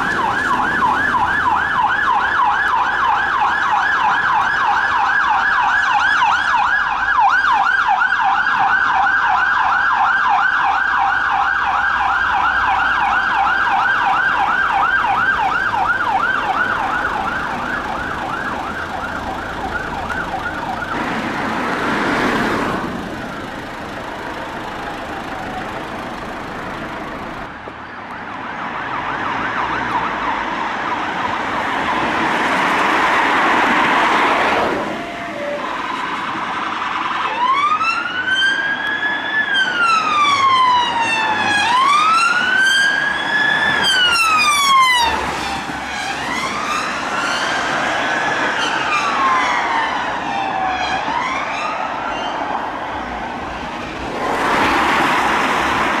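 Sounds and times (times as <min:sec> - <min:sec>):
emergency siren yelping: 0:00.0 - 0:27.5, 0:33.8 - 0:56.0
vehicles passing with road noise: 0:00.0 - 0:56.0.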